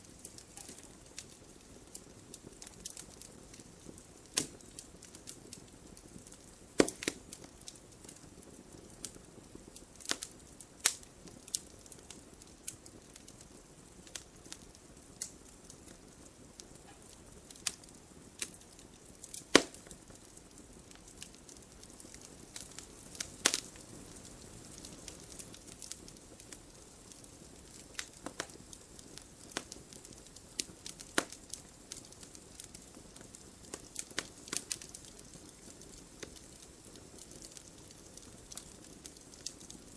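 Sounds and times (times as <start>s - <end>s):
faint steady fire hiss: 0.0s - 39.9s
logs crackling and popping: 0.0s - 39.9s.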